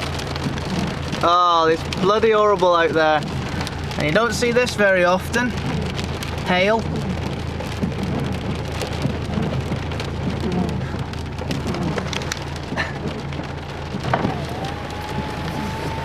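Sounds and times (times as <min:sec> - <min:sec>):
hail pelting a car roof: 0:00.0 - 0:16.0.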